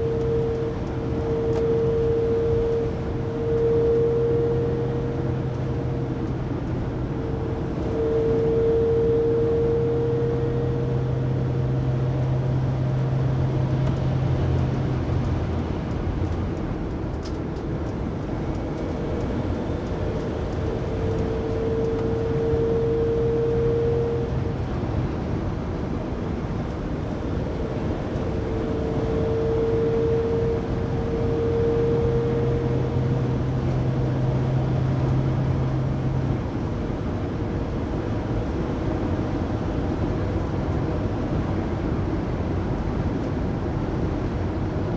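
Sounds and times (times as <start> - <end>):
high drivetrain whine: 0.0 - 44.9
road rumble: 0.0 - 44.9.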